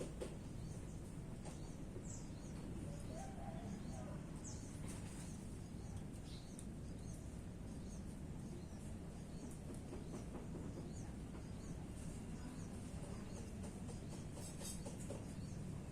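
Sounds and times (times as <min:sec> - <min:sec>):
low background noise: 0:00.0 - 0:15.9.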